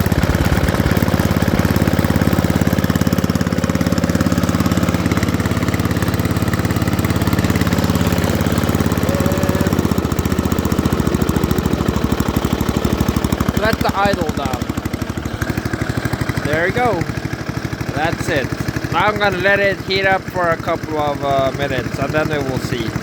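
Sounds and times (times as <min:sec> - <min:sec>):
snowblower engine running: 0:00.0 - 0:23.0.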